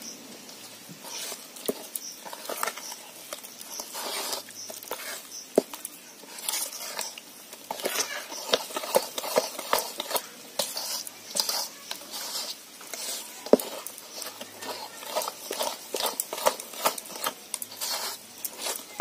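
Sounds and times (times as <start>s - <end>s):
batter squishing in a bowl: 0.7s - 19.0s.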